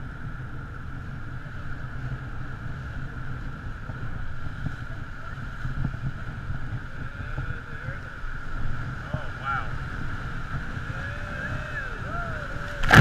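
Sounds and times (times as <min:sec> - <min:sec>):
outboard motor drone: 0:00.0 - 0:13.0
wind buffeting microphone: 0:00.0 - 0:13.0.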